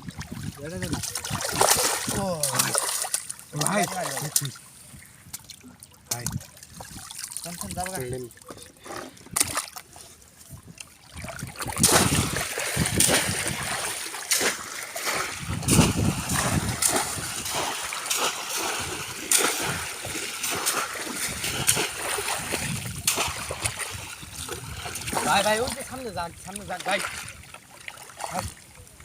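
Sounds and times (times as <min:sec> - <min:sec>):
splashing in shallow water: 0:00.0 - 0:29.0.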